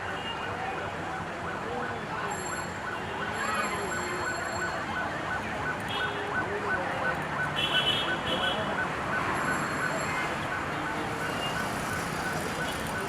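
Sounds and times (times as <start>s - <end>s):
traffic engines din: 0.0s - 13.0s.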